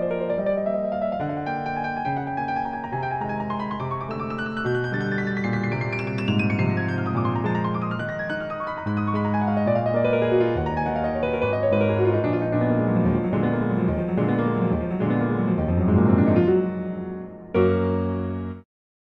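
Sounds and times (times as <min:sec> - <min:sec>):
piano music: 0:00.0 - 0:18.6.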